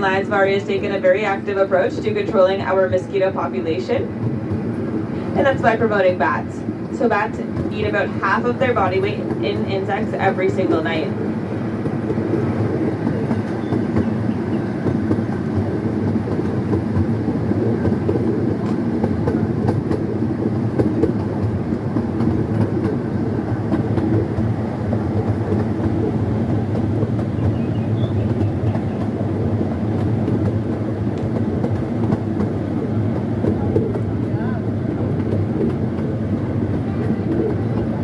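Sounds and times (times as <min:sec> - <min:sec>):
small train rumbling on track: 0:00.0 - 0:38.0.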